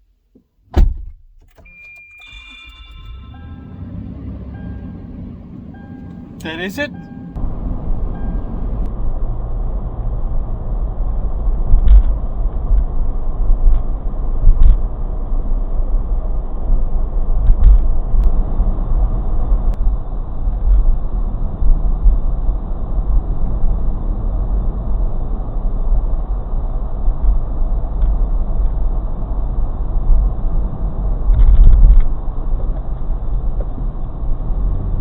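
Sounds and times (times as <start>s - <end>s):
road and engine rumble in car: 0.2s - 35.0s.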